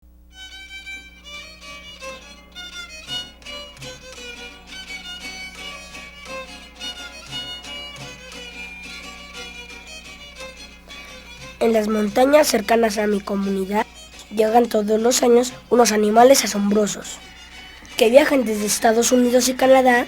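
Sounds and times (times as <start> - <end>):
violin playing lively melody: 0.3 - 20.0.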